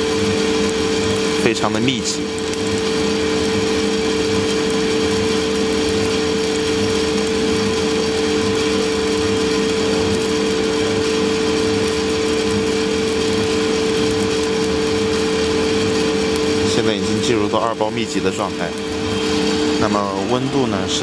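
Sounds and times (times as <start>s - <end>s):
coffee beans crackling: 0.0s - 21.0s
coffee roaster humming: 0.0s - 21.0s.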